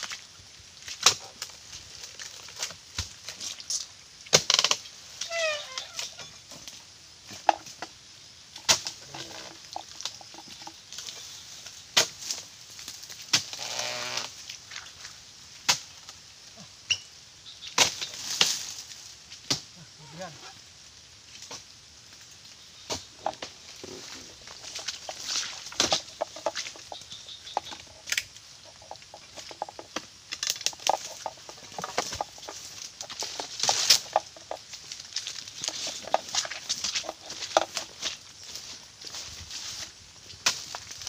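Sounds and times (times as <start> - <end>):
palm fronds rustling: 0.0 - 41.0.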